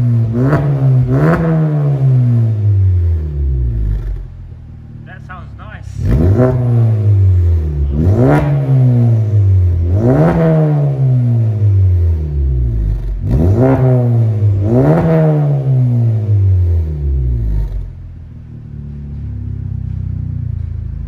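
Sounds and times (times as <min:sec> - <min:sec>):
car engine idling: 0:00.0 - 0:21.0
car engine revving: 0:00.0 - 0:21.0.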